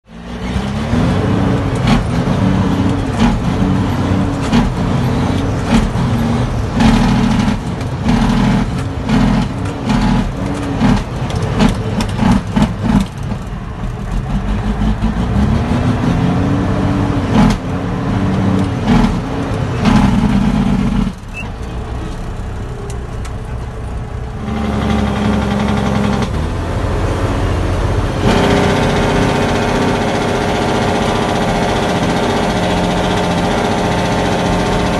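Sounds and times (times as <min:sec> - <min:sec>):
diesel truck engine: 0:00.0 - 0:34.9.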